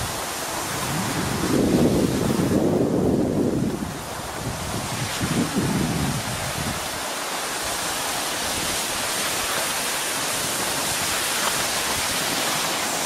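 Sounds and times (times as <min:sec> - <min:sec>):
wind and snow hissing on microphone: 0:00.0 - 0:13.0.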